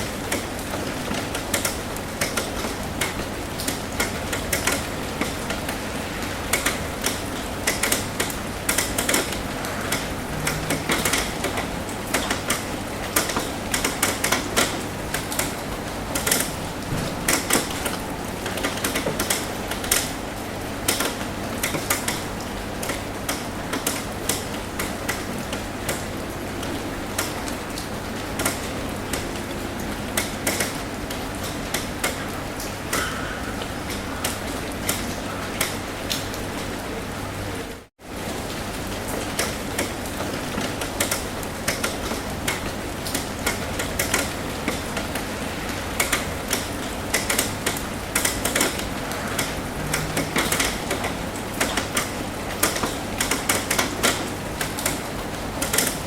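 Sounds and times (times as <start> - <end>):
rain drops tapping on metal roof: 0.0 - 56.0
rainfall hiss: 0.0 - 56.0.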